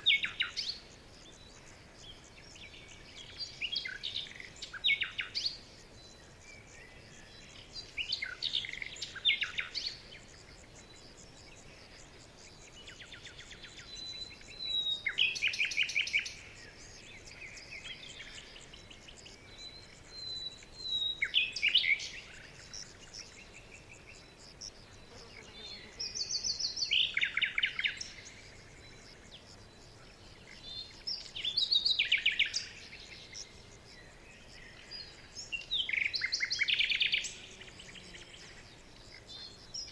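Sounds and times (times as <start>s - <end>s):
faint bird chirps: 0.0s - 39.9s
soft steady hiss: 0.0s - 39.9s
songbirds singing: 0.0s - 39.9s.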